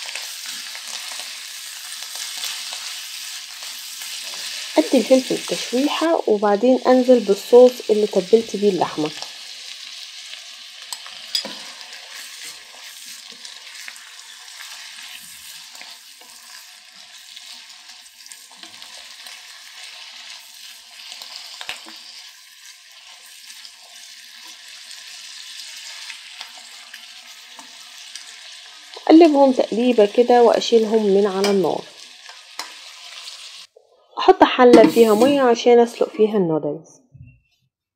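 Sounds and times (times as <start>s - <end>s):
meat and vegetables sizzling: 0.0s - 36.1s.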